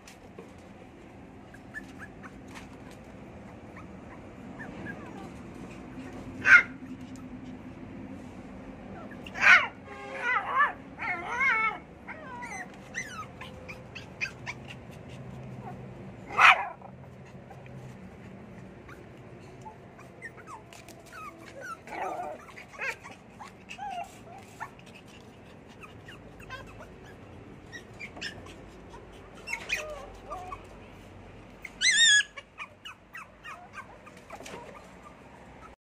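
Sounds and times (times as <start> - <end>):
puppies yipping and whimpering: 1.5 - 7.7, 8.8 - 35.8.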